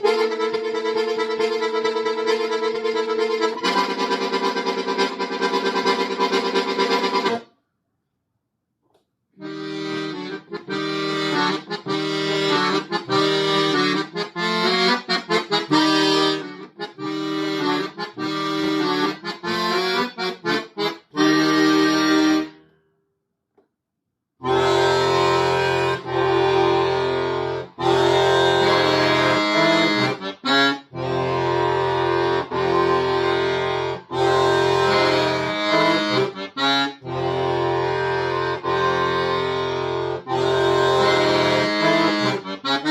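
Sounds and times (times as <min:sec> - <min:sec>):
accordion playing chords: 0:00.0 - 0:07.5, 0:09.4 - 0:22.7, 0:24.4 - 0:42.9.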